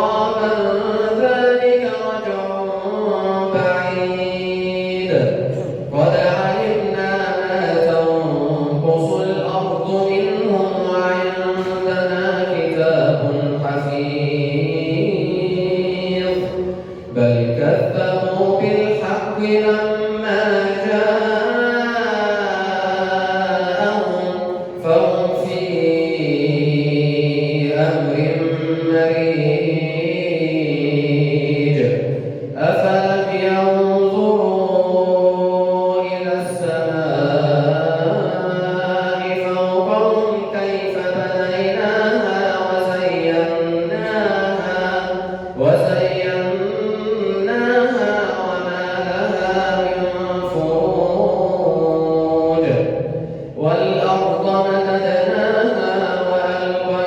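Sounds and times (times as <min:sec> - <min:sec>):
man chanting melodically: 0:00.0 - 0:57.0.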